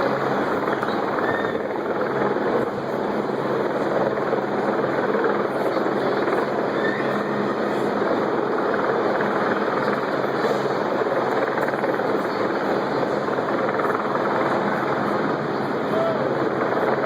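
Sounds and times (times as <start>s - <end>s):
helicopter droning overhead: 0.0s - 17.0s.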